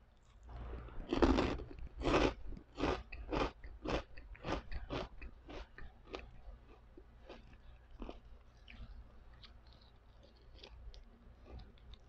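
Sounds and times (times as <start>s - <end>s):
crunchy chewing: 0.1s - 12.0s.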